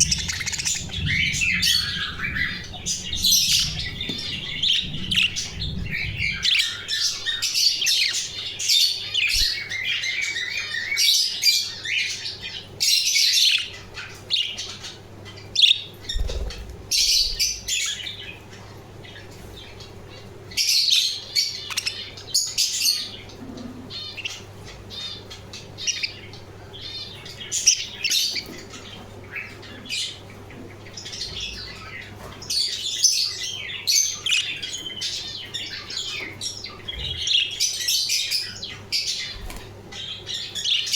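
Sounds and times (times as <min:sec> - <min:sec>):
faint low hum: 0:00.0 - 0:10.9, 0:11.8 - 0:40.9
budgerigars chirping and chattering: 0:00.0 - 0:40.9.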